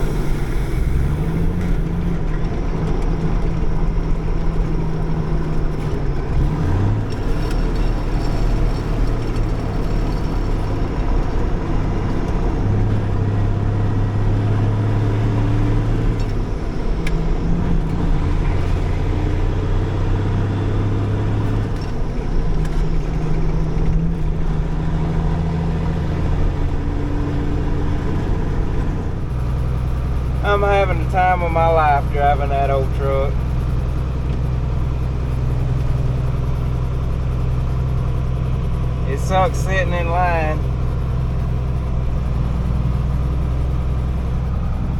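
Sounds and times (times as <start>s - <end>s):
diesel truck engine running: 0.0s - 44.9s.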